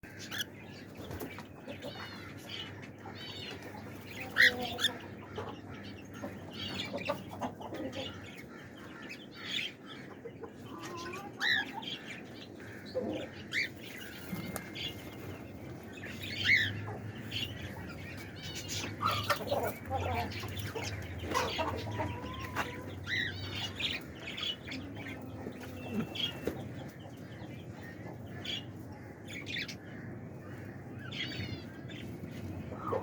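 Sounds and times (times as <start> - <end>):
parrots chirping and squawking: 0.0 - 32.0.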